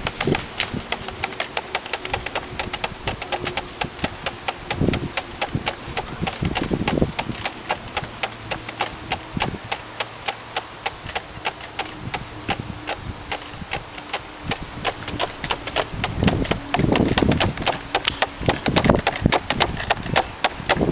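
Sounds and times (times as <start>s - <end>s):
garden windmill clicking: 0.0s - 20.9s.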